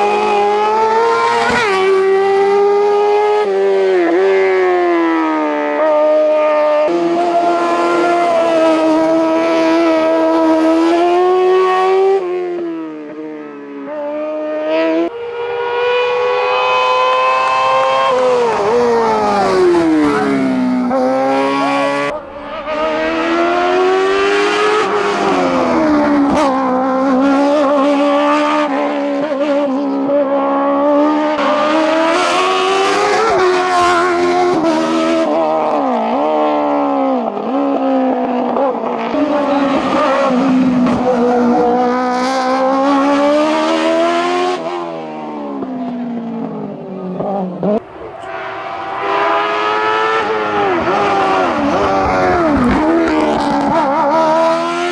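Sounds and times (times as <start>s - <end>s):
race car engine revving hard: 0.0s - 54.9s.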